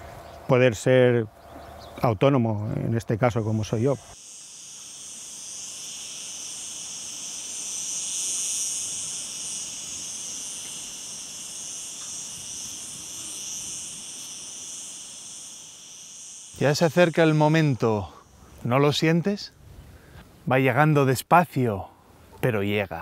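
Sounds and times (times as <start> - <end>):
insects chirring: 0.0 - 21.2.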